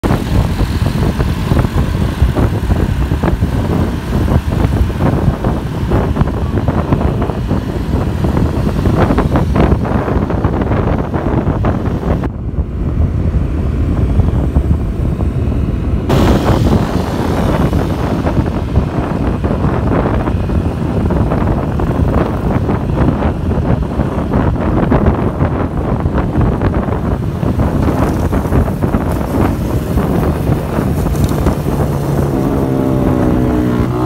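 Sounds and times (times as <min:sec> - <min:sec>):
motorcycle engine and road noise: 0:00.0 - 0:34.0
wind buffeting microphone: 0:00.0 - 0:34.0.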